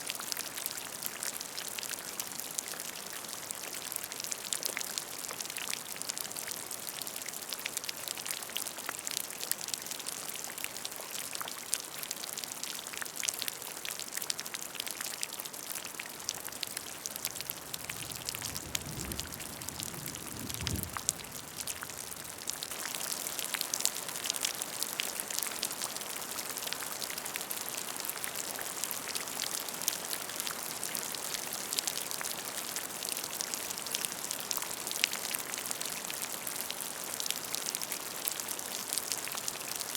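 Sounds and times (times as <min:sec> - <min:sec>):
rain falling into a puddle: 0:00.0 - 0:39.9.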